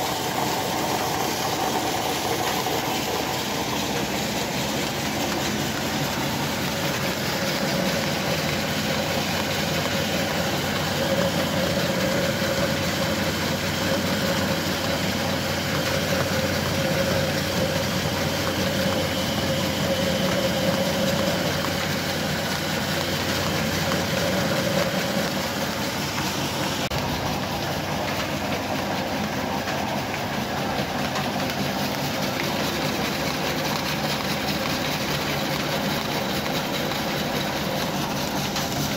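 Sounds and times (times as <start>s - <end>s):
flour mills grinding drone: 0.0s - 38.9s.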